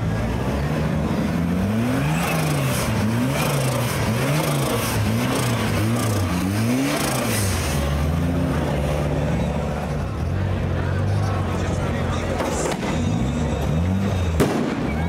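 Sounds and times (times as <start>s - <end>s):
buggy engine revving in blips: 0.0s - 11.5s, 12.3s - 15.0s.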